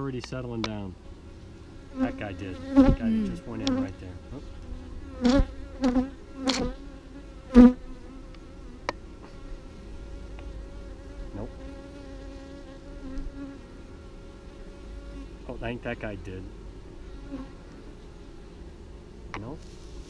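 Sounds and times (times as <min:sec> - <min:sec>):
bees buzzing: 0:00.5 - 0:20.0
bee flying past: 0:01.2 - 0:18.5.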